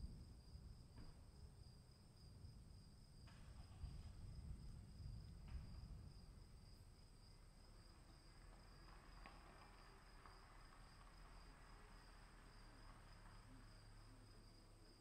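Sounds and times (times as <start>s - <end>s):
low storm rumble: 0.0s - 15.0s.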